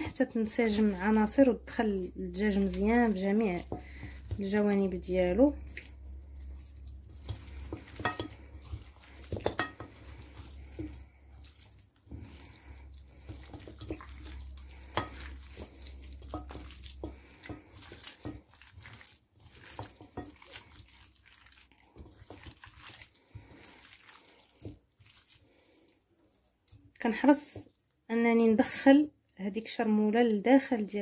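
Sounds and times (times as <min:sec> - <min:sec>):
wet squelching of meat: 0:00.0 - 0:28.1.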